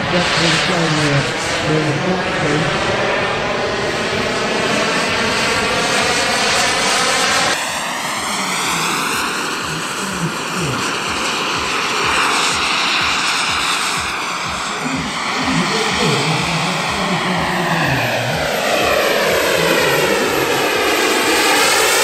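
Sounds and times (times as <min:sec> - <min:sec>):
model aircraft engine running: 0:00.0 - 0:22.0.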